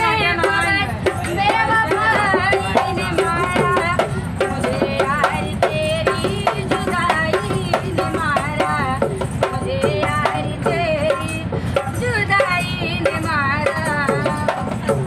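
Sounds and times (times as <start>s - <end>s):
hand drum beating: 0.0s - 15.0s
woman singing folk song: 0.0s - 15.0s.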